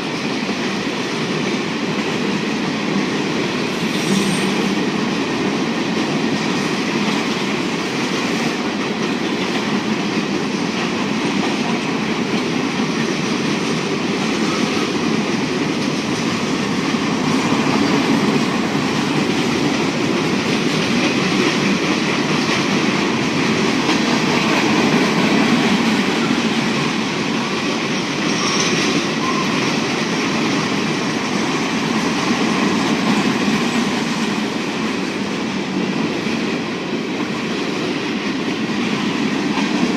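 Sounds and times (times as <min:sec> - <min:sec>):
train wheels on track: 0:00.0 - 0:39.9.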